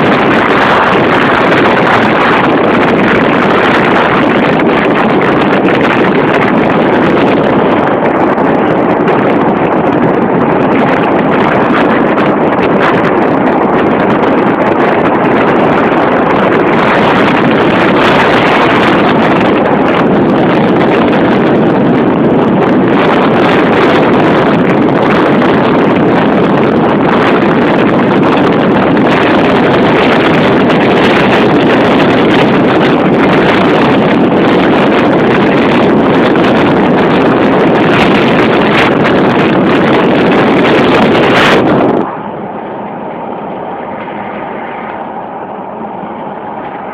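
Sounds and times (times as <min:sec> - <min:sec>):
wind and road noise: 0:00.0 - 0:46.9.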